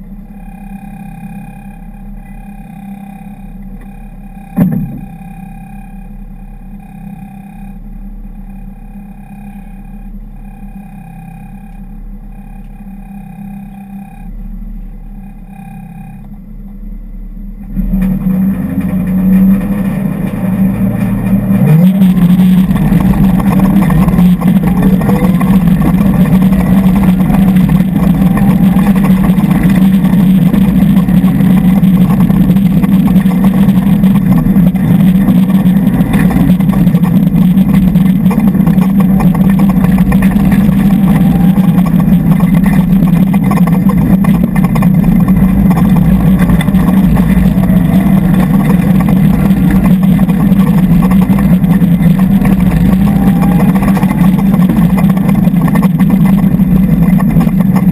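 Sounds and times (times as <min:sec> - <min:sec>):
rally car engine: 0:00.0 - 0:57.9.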